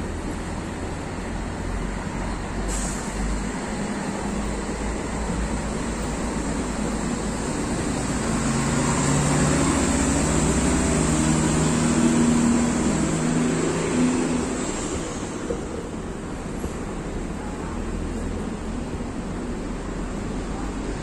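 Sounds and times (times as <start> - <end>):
moving walkway rumble and hiss: 0.0 - 21.0.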